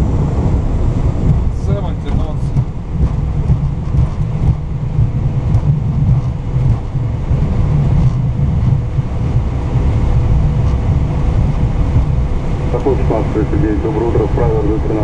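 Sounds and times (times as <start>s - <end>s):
faint steady hum: 0.0s - 15.0s
wheels rumbling on runway: 0.0s - 15.0s.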